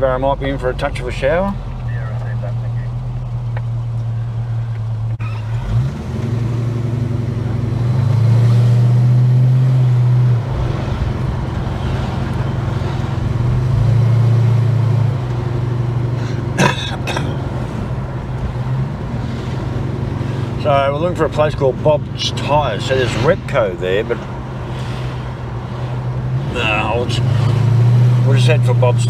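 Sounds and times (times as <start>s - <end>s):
car engine drone from inside: 0.0s - 29.0s.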